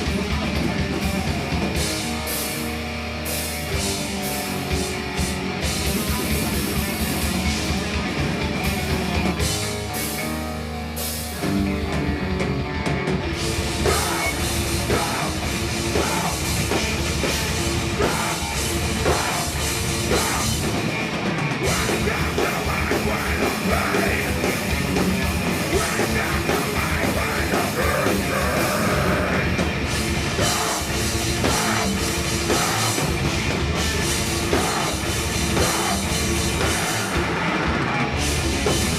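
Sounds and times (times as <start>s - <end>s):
metal band playing live: 0.0s - 38.9s.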